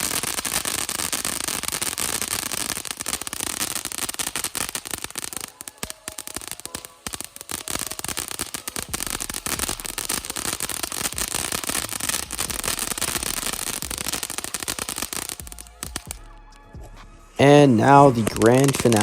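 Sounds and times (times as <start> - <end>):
fountain firework hissing and crackling: 0.0 - 16.3, 17.4 - 19.0.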